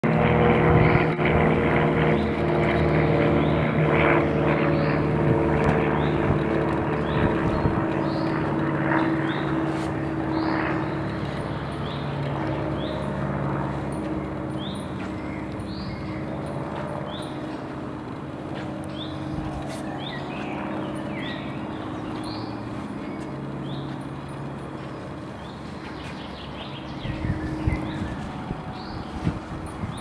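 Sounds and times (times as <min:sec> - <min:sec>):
engine drone: 0:00.0 - 0:30.0.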